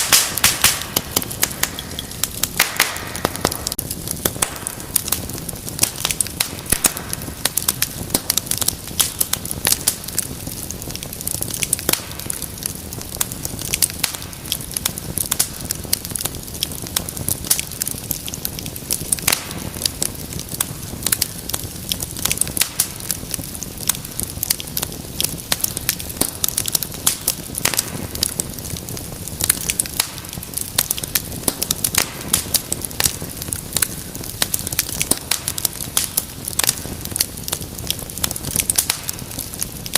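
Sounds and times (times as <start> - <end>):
fire popping and snapping: 0.0 - 39.9
low rush of flame: 0.0 - 39.9.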